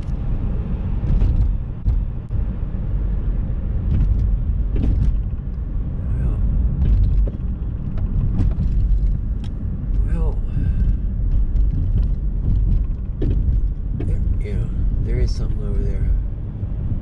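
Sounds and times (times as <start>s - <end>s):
road and drivetrain rumble: 0.0s - 17.0s
suspension clunking: 0.0s - 17.0s.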